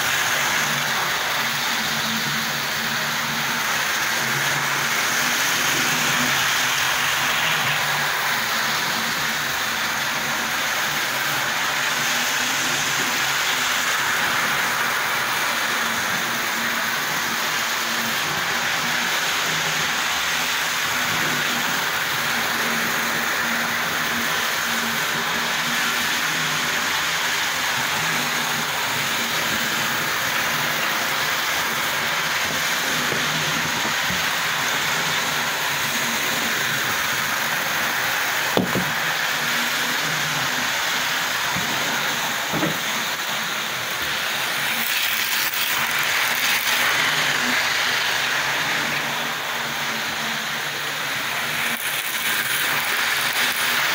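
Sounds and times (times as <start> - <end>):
model train motor whirring: 0.0 - 53.9
wheels running on track: 0.0 - 53.9.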